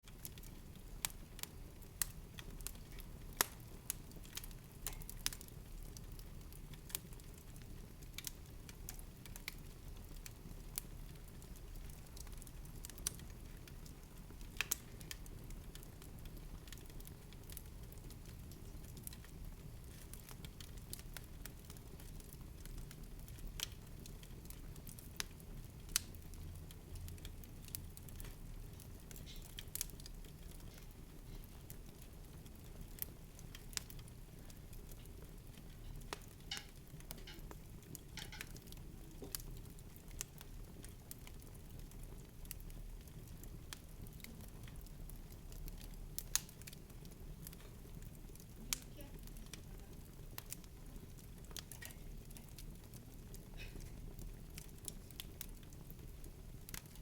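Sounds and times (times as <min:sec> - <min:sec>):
sharp crackles and pops: 0:00.0 - 0:57.0.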